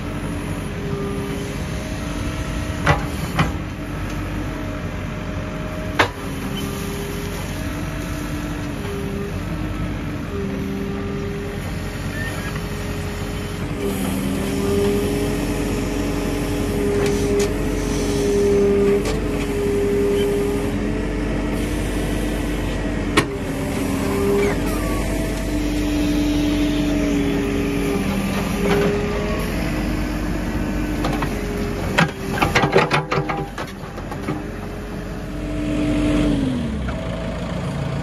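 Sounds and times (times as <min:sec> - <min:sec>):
backhoe engine and hydraulics: 0:00.0 - 0:38.0.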